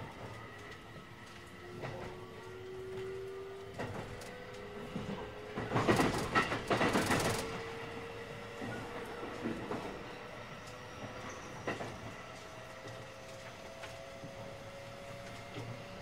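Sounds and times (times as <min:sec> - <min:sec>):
clattering track noise: 0:00.0 - 0:16.0
wheel and rail rumble: 0:00.0 - 0:16.0.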